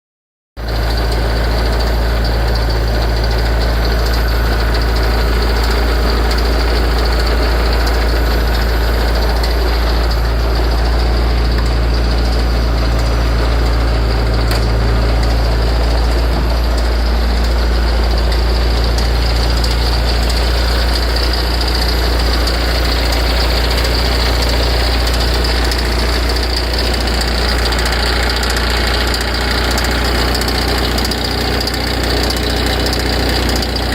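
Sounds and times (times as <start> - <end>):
car engine idling: 0.6 - 33.9
light regular engine ticking: 0.6 - 33.9.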